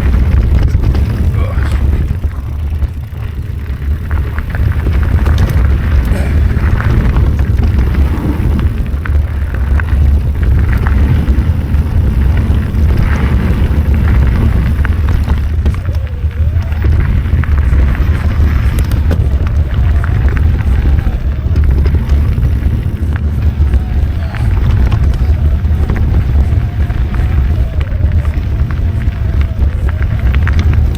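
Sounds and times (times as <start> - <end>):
bike clicks and rattles: 0.0 - 30.9
wind buffeting microphone: 0.0 - 30.9.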